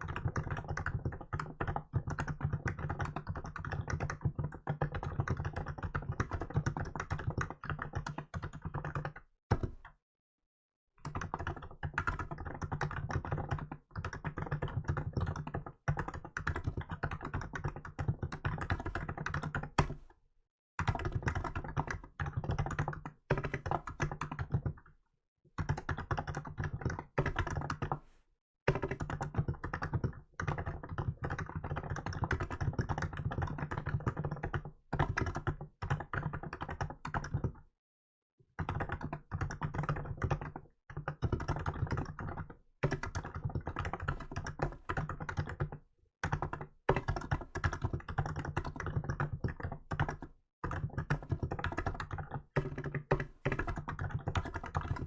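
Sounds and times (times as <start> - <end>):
fast typing on keyboard: 0.0 - 10.0, 11.0 - 20.2, 20.8 - 25.0, 25.6 - 37.7, 38.4 - 55.0.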